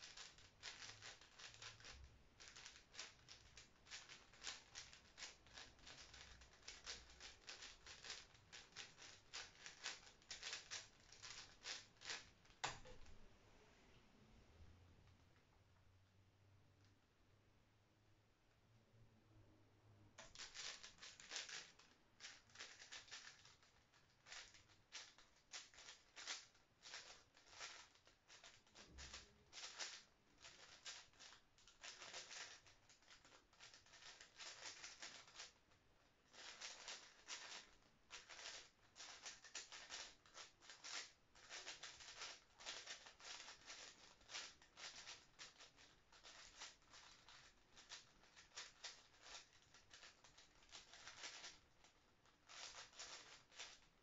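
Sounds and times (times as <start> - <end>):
plastic puzzle cube clicking: 0.0 - 13.1, 20.2 - 35.6, 36.3 - 51.6, 52.4 - 53.9.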